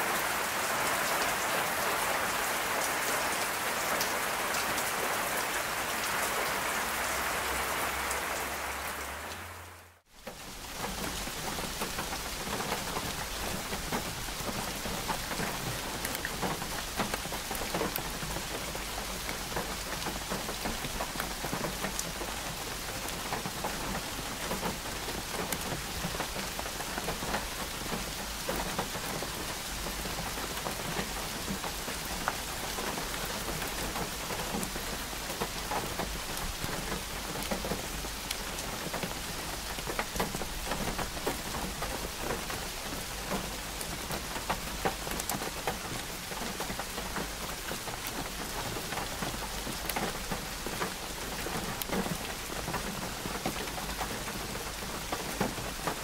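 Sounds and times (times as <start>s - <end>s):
steady rain: 0.0s - 56.0s
raindrops ticking: 3.4s - 56.0s.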